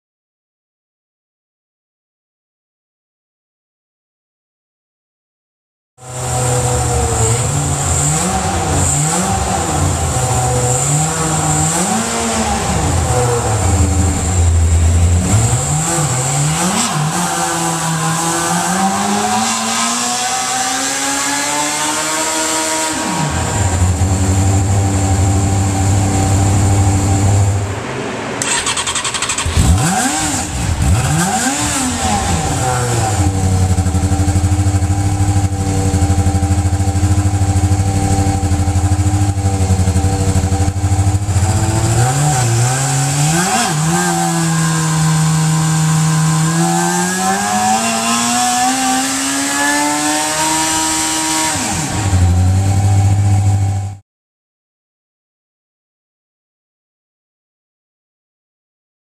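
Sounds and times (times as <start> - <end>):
motorcycle engine revving: 6.0 - 54.0.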